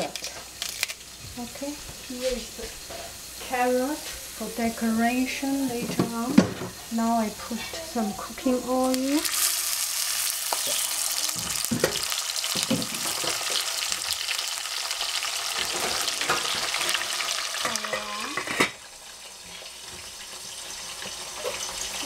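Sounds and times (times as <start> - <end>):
oil sizzling in a saucepan: 0.0 - 22.0.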